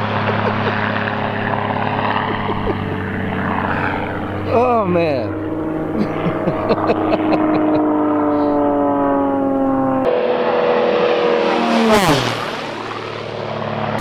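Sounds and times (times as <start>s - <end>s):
aircraft fly-by: 0.0s - 14.0s
propeller airplane engine drone: 0.0s - 14.0s.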